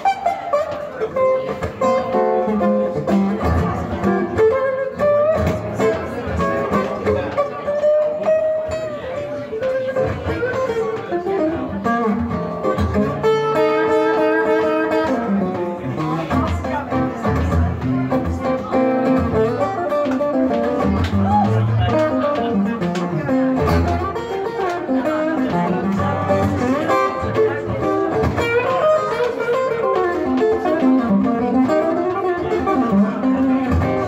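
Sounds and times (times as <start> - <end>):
acoustic blues guitar: 0.0 - 34.0.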